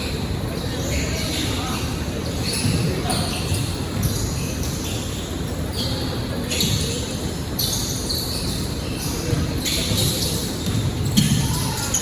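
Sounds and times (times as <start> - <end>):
echoing gym background noise: 0.0 - 12.0.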